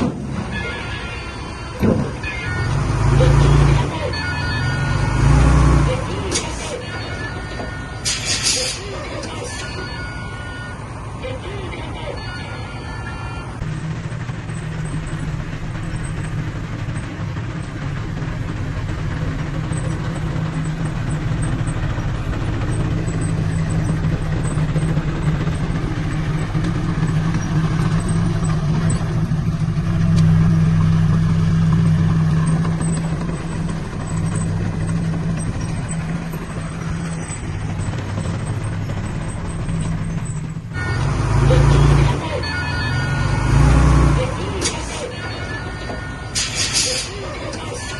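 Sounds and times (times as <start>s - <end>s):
heavy diesel engine working: 0.0s - 47.9s.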